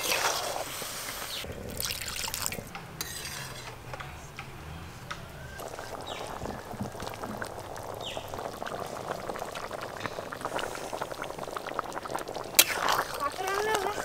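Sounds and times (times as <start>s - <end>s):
curry bubbling in a pot: 0.0s - 3.8s, 5.6s - 14.0s.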